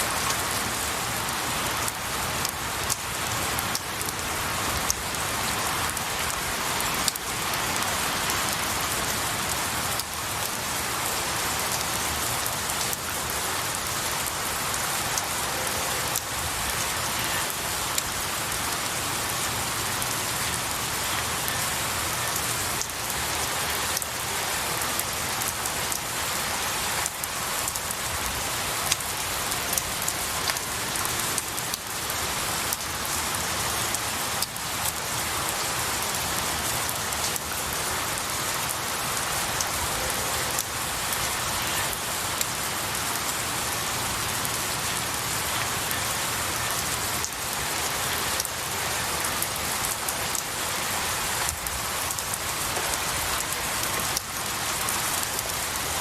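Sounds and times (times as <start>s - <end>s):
rain falling on pine branches: 0.0s - 56.0s.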